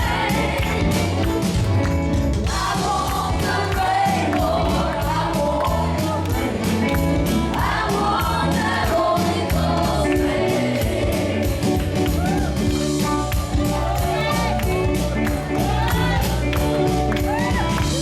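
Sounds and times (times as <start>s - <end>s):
gospel band with voices singing: 0.0s - 18.0s.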